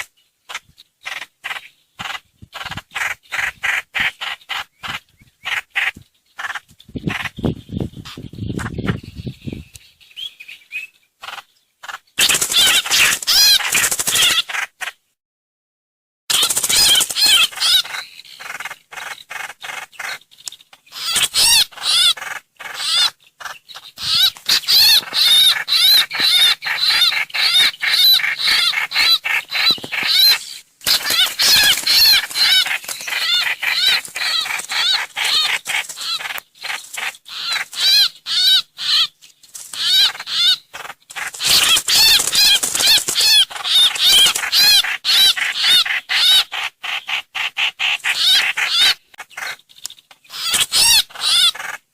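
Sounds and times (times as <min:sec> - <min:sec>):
songbird chattering calls: 0:00.0 - 0:14.9, 0:16.3 - 0:51.9.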